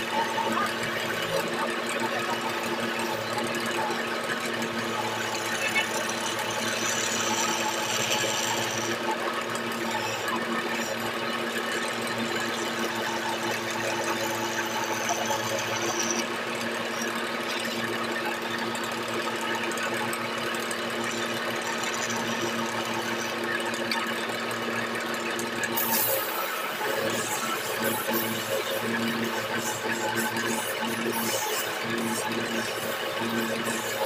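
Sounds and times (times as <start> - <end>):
wood lathe motor hum: 0.0 - 34.0.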